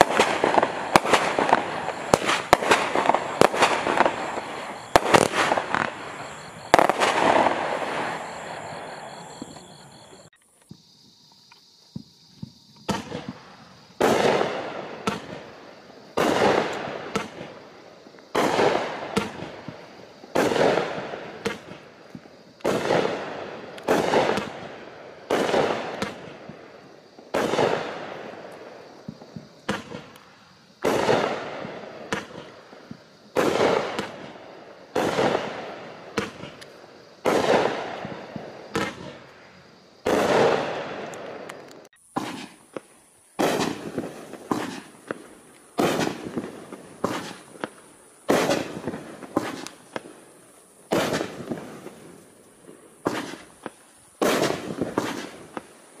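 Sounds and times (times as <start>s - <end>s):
fireworks bangs: 0.0s - 11.0s, 11.8s - 56.0s
small firework pops: 0.0s - 56.0s.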